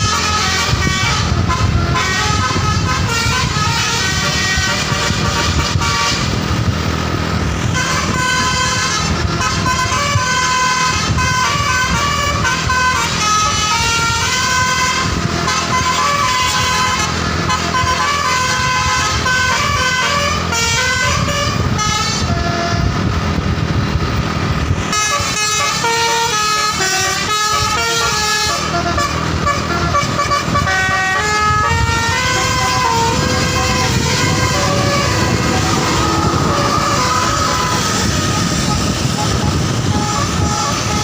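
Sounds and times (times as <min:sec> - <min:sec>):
musical bus horn tune: 0:00.0 - 0:23.2, 0:24.7 - 0:41.0
bus engine rumble: 0:00.0 - 0:41.0.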